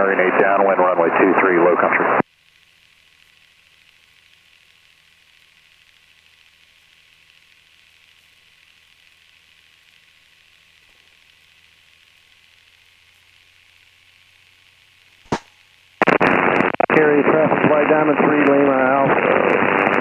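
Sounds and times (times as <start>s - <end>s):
radio hiss with low hum: 0.0s - 20.0s.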